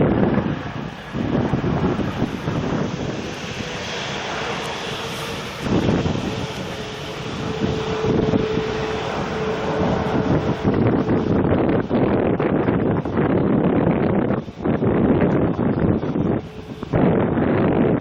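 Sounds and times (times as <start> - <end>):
aircraft engines whining: 0.0 - 18.0
wind buffeting microphone: 0.0 - 18.0.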